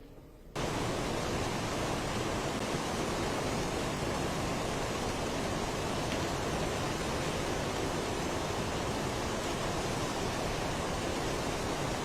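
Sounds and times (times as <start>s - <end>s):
steady rushing noise: 0.6s - 12.0s.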